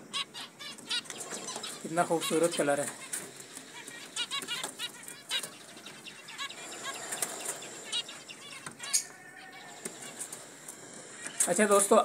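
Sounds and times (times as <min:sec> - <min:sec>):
finches calling: 0:00.0 - 0:12.0.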